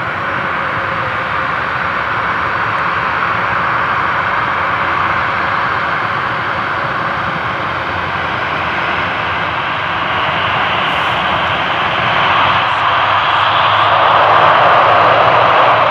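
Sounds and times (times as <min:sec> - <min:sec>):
turboprop engines running: 0:00.0 - 0:15.9.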